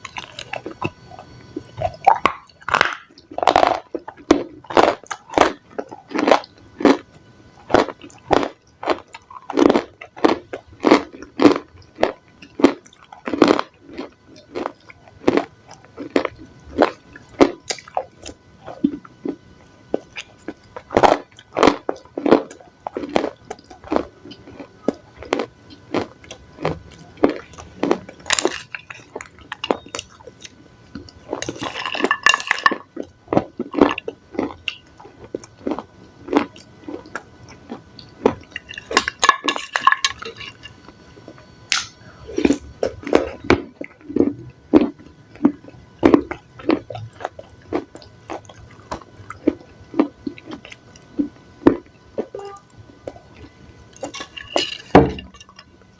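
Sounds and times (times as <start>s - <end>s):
chewing crunchy salad: 0.0s - 55.9s.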